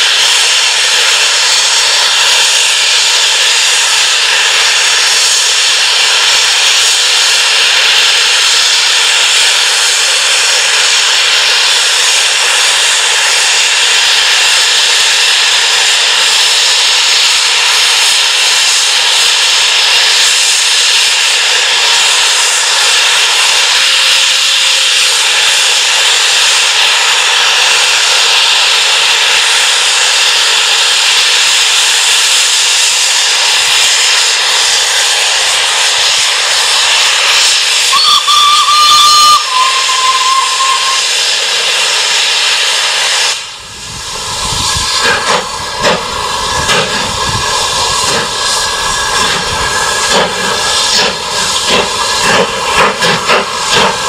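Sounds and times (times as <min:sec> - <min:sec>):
steam safety valves hissing: 0:00.0 - 0:54.0.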